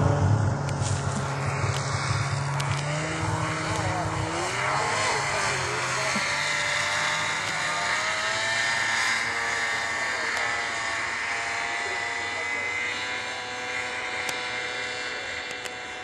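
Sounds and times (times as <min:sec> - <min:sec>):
snowmobile engine running: 0:00.0 - 0:16.0.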